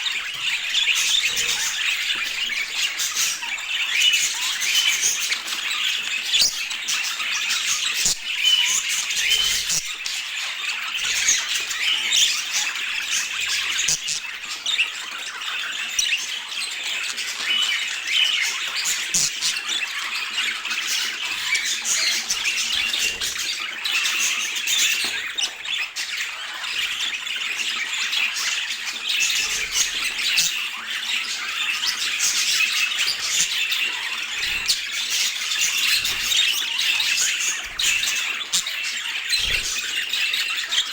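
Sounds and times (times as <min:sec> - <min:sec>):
budgerigar chirping and squawking: 0:00.0 - 0:40.9.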